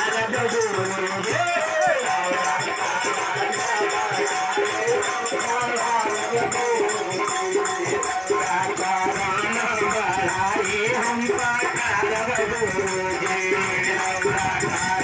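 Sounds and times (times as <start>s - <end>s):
jingling hand percussion: 0.0s - 15.0s.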